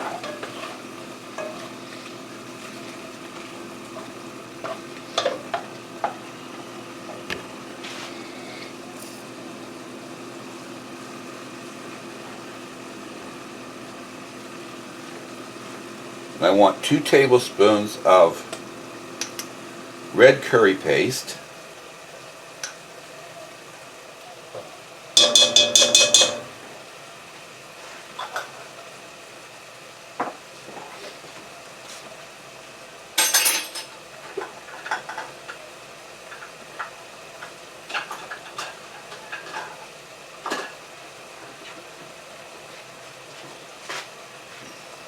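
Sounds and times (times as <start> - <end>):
faint sizzle: 0.0 - 25.7, 26.3 - 33.2, 33.8 - 45.0.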